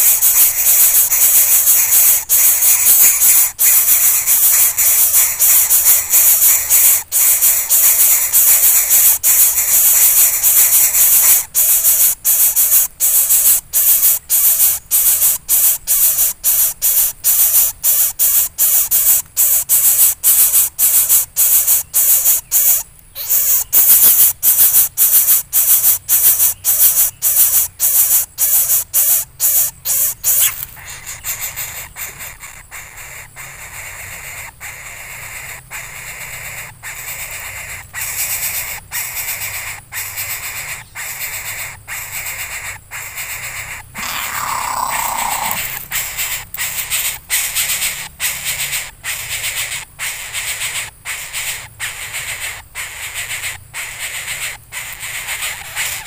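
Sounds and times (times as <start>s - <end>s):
nestlings hissing begging calls: 0.0s - 56.0s.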